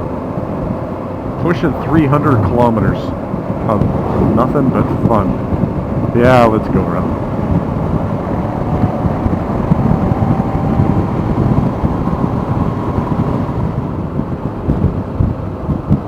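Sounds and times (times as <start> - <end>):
motorcycle engine drone: 0.0 - 15.0
wind buffeting microphone: 0.0 - 16.0.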